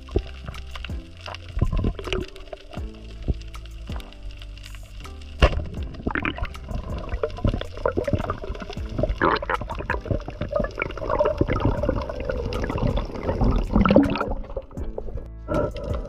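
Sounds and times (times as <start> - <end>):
low rumble: 0.0 - 16.0
muffled underwater movement: 0.0 - 16.0
small clicks and crackles: 0.0 - 16.0.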